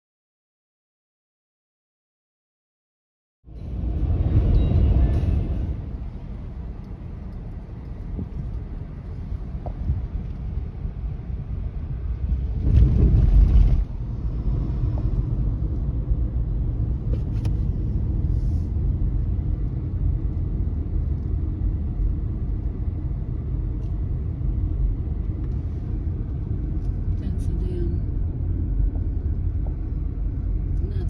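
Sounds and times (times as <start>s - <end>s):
car road rumble: 3.5s - 31.0s.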